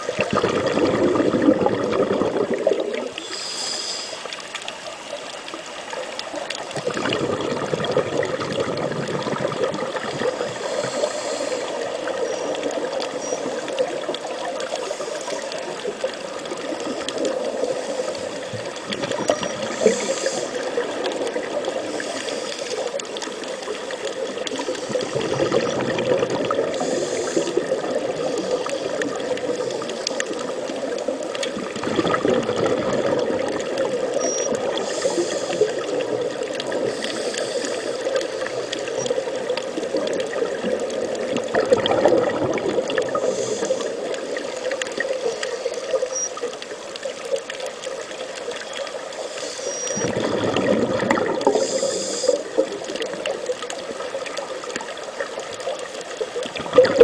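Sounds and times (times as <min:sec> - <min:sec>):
underwater rushing and bubbling water: 0:00.0 - 0:57.0.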